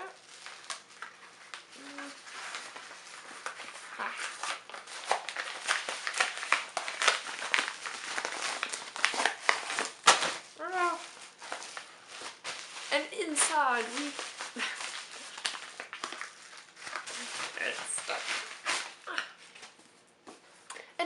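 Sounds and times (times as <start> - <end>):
crinkling of packaging: 0.0 - 19.8.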